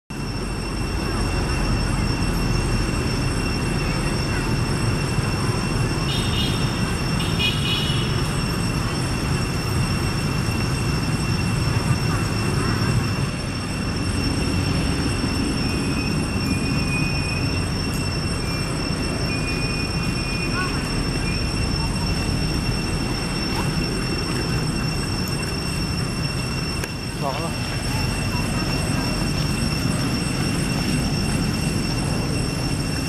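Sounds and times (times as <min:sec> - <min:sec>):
constant high-pitched tones: 0:00.1 - 0:33.0.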